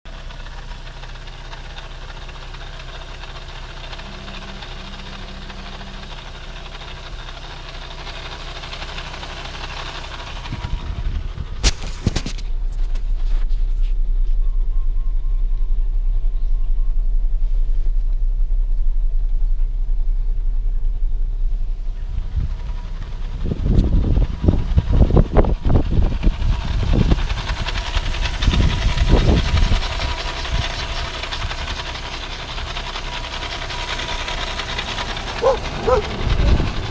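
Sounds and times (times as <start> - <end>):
car hum with hiss: 0.1 - 36.9
loud low rumble: 2.8 - 36.9.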